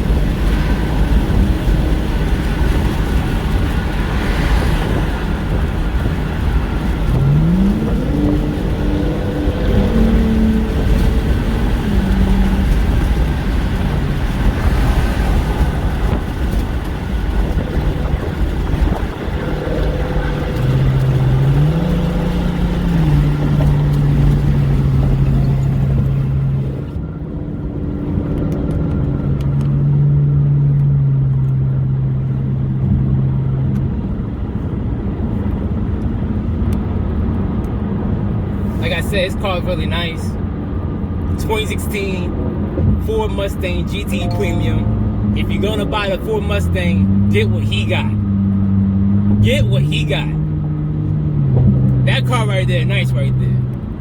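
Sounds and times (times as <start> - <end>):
car engine running: 0.0 - 29.9, 33.8 - 54.0
road and wind noise: 0.0 - 54.0.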